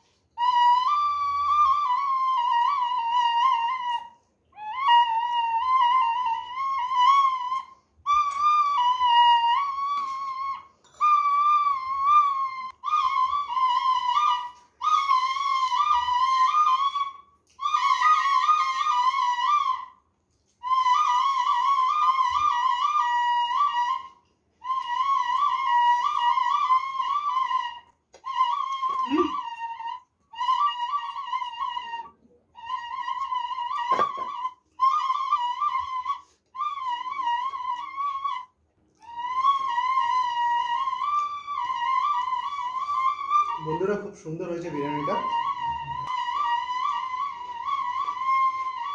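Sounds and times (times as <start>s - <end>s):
bamboo flute melody: 0.0s - 48.9s.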